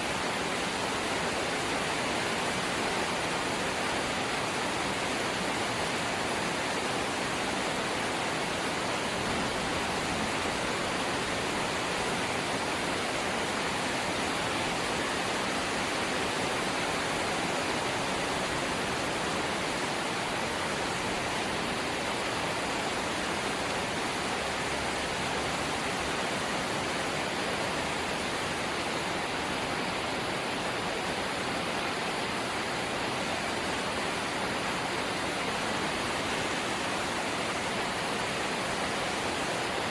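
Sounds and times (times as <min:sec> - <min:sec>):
steady light rain: 0:00.0 - 0:39.9.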